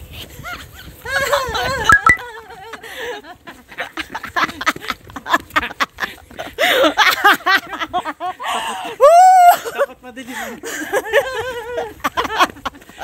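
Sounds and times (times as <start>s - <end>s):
women laughing and squealing: 0.3s - 13.0s.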